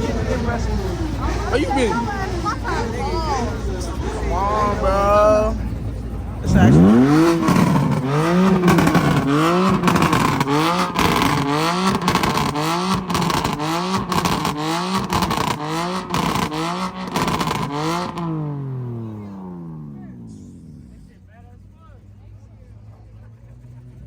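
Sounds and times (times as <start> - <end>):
car engine revving: 0.0 - 24.0
exhaust crackle: 0.0 - 24.0.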